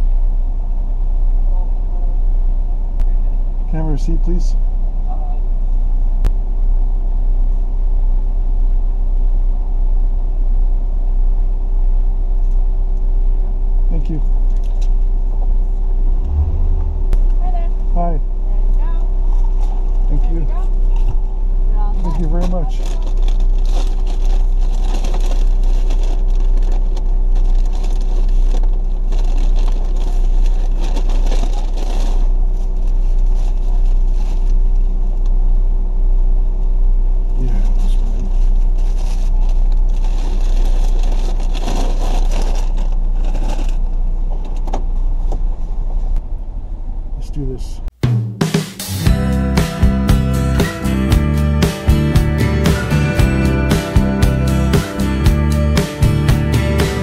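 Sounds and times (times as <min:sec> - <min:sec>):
car engine idling: 0:00.0 - 0:48.0, 0:49.0 - 0:57.0.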